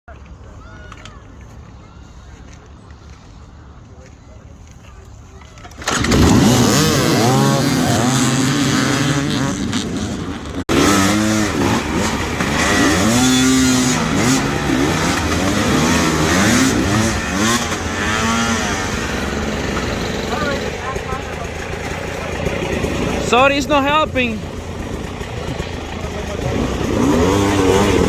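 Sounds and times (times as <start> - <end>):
dirt bike engines revving: 0.2 - 28.0.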